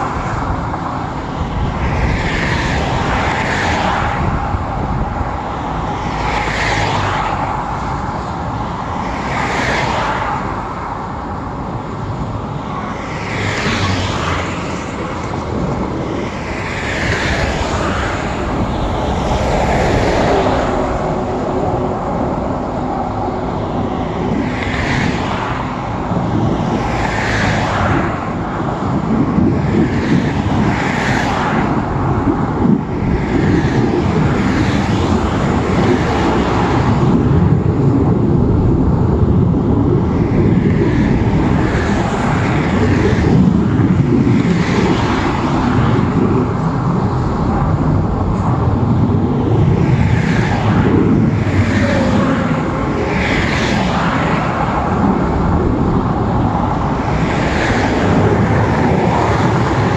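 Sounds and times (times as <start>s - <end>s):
cars passing with tyre hiss: 0.0s - 59.9s
low rumble of traffic: 0.0s - 59.9s.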